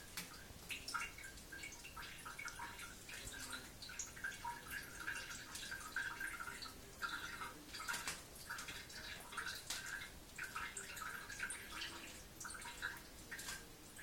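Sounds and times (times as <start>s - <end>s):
liquid dripping into toilet water: 0.0s - 14.0s.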